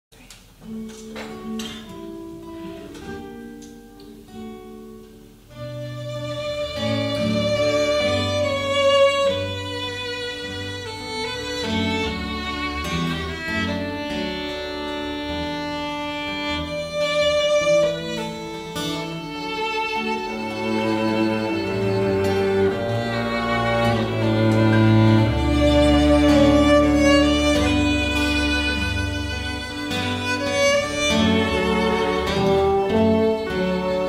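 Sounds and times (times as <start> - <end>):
acoustic guitar picking: 0.6 - 34.0
bowed strings with violin: 5.5 - 34.0.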